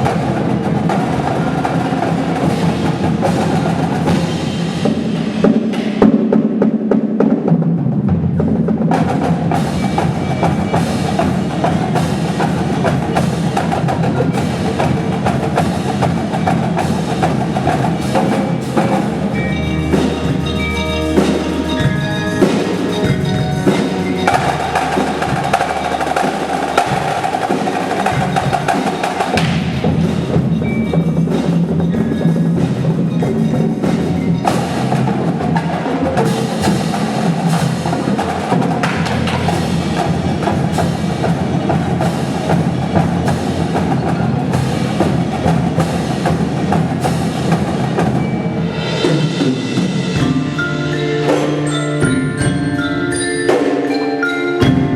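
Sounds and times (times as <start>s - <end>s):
marimba and bells: 0.0s - 5.4s, 9.1s - 54.9s
rapid drum strikes: 0.0s - 54.0s, 54.6s - 54.9s.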